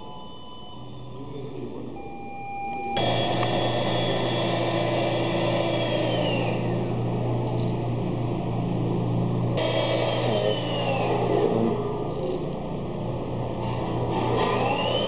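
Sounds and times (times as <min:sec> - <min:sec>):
noisy electronic drone: 0:02.9 - 0:15.0.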